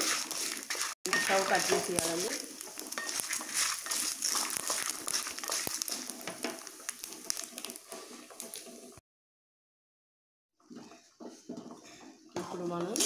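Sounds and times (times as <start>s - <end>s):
spatula stirring dry seeds: 0.0s - 9.0s, 10.6s - 13.0s.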